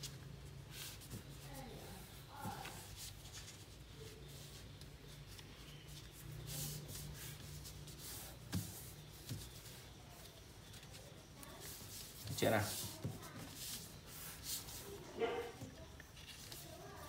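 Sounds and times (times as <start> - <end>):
paper rustling on a table: 0.0 - 17.0.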